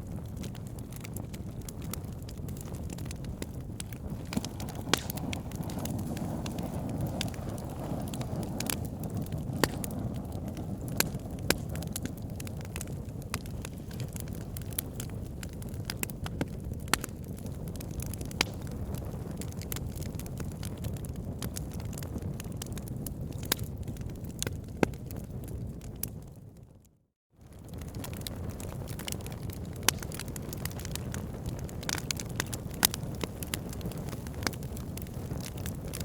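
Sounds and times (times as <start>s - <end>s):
fire low rumble: 0.0s - 36.0s
wood fire crackling and popping: 0.0s - 36.0s.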